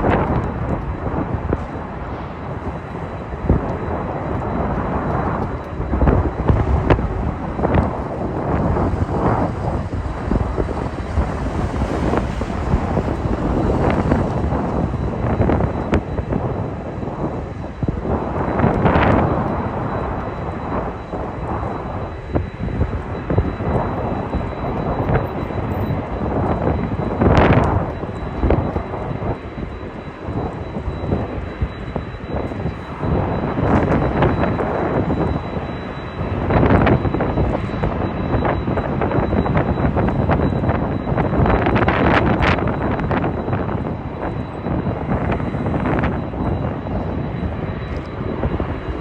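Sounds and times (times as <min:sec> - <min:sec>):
rumbling jet aircraft: 0:00.0 - 0:49.0
wind buffeting microphone: 0:00.0 - 0:49.0.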